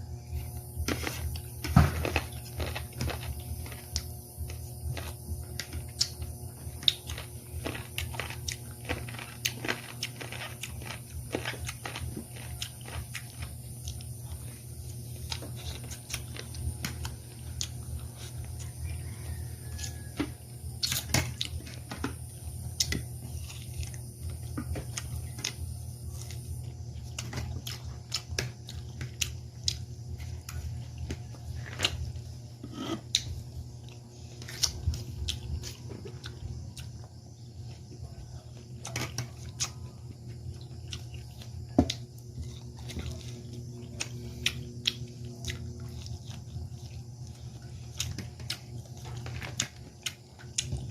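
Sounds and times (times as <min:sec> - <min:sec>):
person chewing and crunching food: 0:00.0 - 0:50.9
steady low hum: 0:00.0 - 0:50.9.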